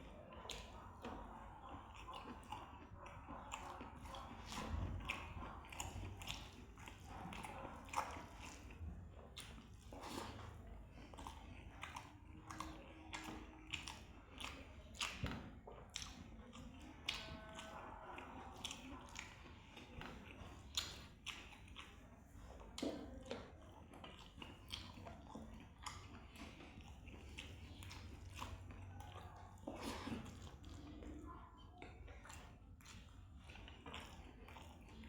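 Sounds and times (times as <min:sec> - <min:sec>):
person chewing food: 0:00.0 - 0:35.0.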